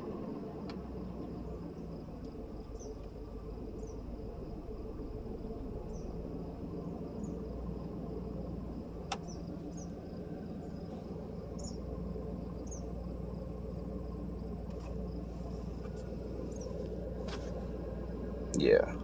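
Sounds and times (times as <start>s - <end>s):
engine idling: 0.0s - 19.0s
crickets chirping: 0.8s - 19.0s.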